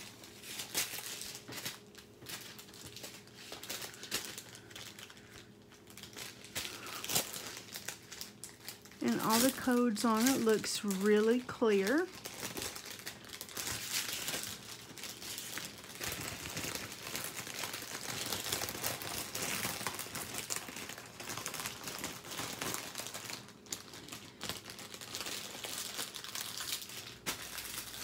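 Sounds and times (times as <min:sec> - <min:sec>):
plastic packaging crinkling: 0:00.0 - 0:28.0.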